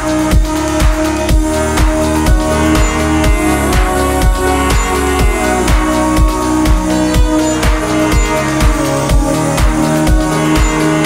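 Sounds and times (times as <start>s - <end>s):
kick drum beat: 0.0s - 11.0s
sustained synth chords: 0.0s - 11.0s.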